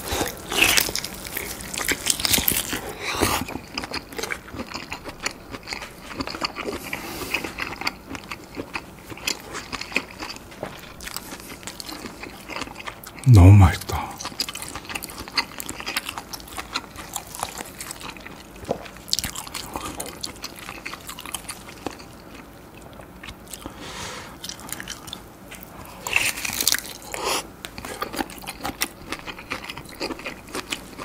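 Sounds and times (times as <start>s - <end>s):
chewing with wet mouth sounds: 0.0s - 31.0s.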